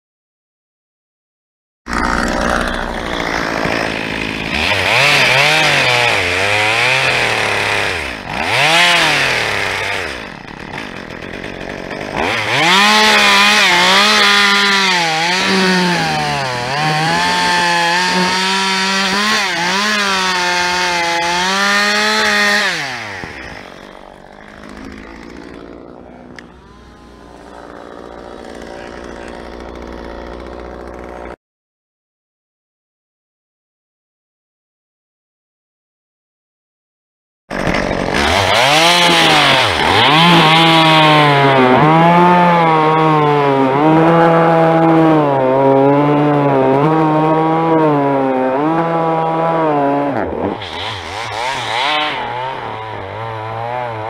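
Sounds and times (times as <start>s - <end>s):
chainsaw cutting and revving: 1.9s - 31.4s, 37.5s - 54.0s.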